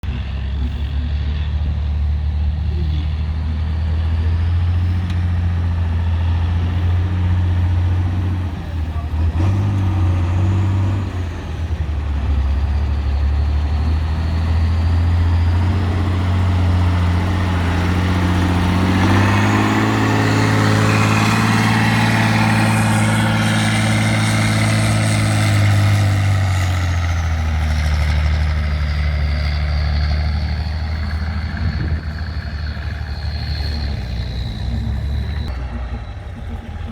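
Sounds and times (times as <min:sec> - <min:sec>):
truck engine working hard: 0:00.0 - 0:36.9.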